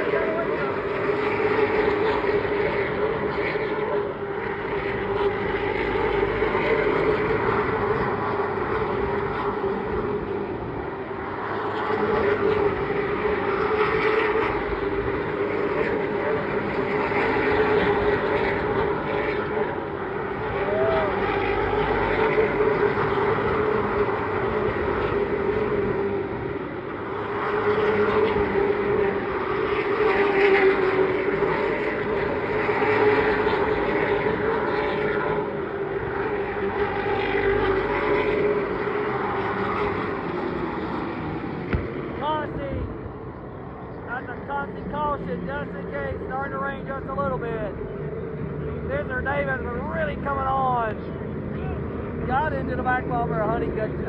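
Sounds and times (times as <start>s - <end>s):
race car engines roaring past: 0.0s - 54.0s.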